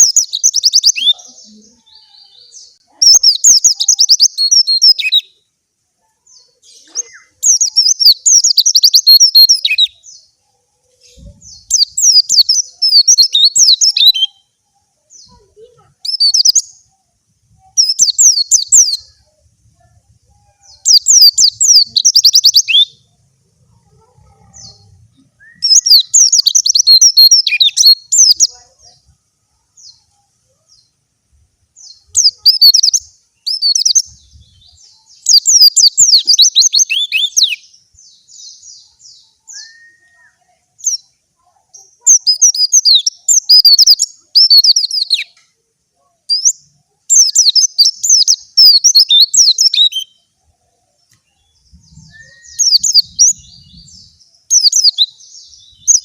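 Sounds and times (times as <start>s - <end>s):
bird twittering song: 0.0s - 31.0s, 31.7s - 45.5s, 46.2s - 56.0s.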